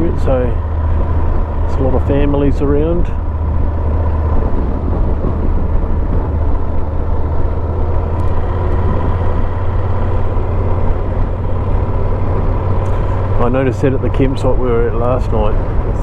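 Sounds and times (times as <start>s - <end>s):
motorcycle engine cruising: 0.0s - 16.0s
wind noise rumble: 0.0s - 16.0s.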